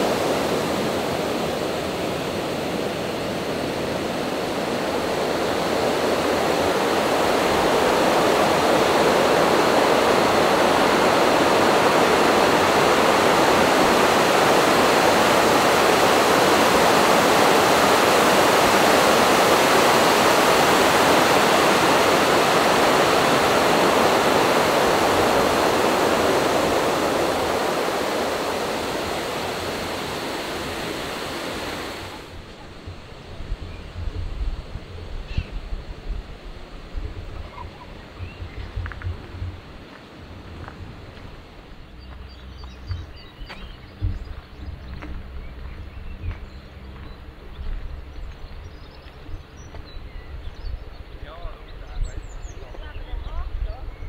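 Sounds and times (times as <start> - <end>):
rushing water: 0.0 - 49.6.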